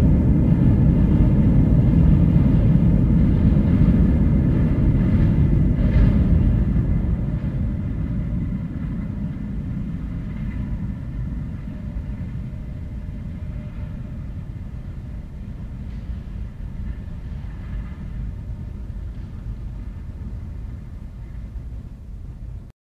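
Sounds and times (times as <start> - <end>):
metro train rumbling: 0.0 - 22.7.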